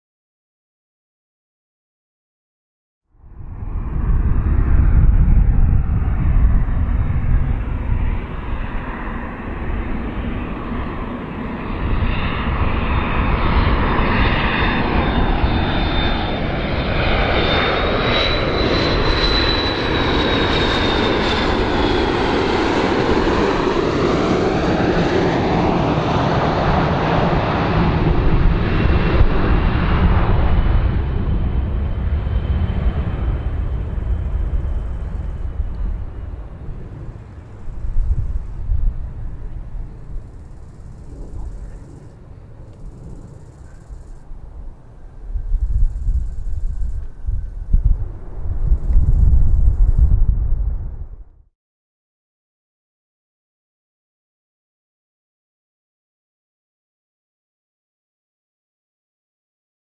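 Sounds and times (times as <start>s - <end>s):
high engine whine: 3.1s - 51.3s
jet airliner flying low: 3.1s - 51.5s.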